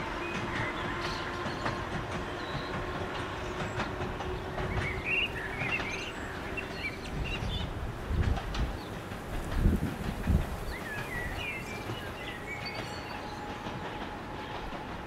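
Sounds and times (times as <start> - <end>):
electric train humming: 0.0 - 15.0
wheels clicking on rail joints: 0.0 - 15.0
birds chirping: 0.1 - 15.0.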